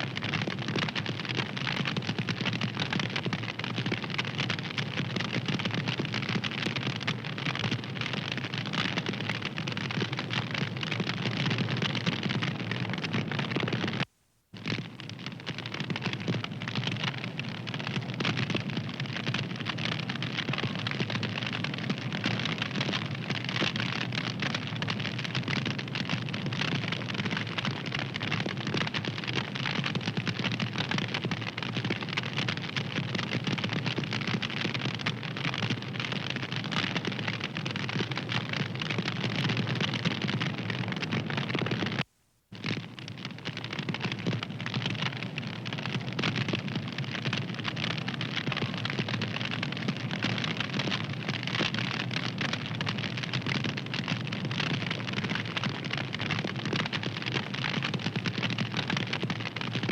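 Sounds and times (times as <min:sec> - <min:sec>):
fire crackling: 0:00.0 - 0:59.8.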